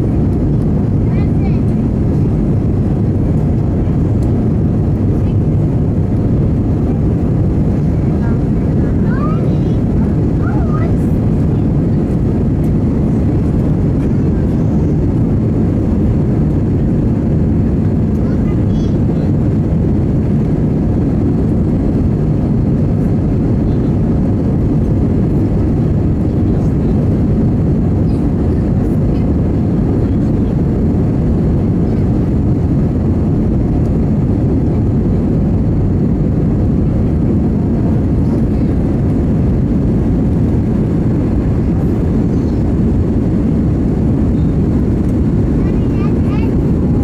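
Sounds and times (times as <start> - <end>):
airplane engine rumble in cabin: 0.0 - 47.0.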